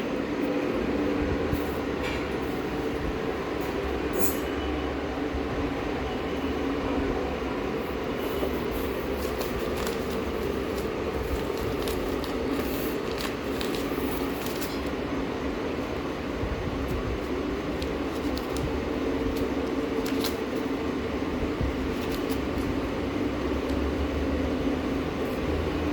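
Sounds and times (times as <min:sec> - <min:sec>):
mechanical hum: 0:00.0 - 0:25.9.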